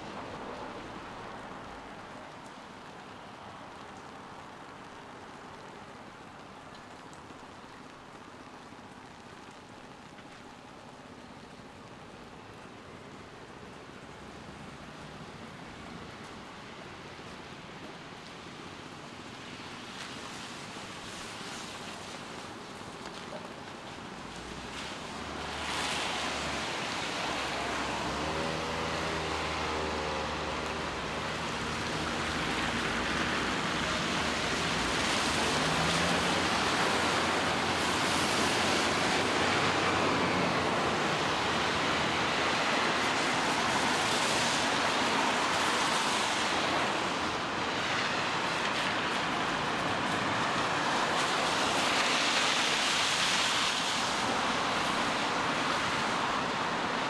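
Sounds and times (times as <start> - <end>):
steady rainfall: 0.0 - 57.0
tyres hissing on wet road: 0.0 - 57.0.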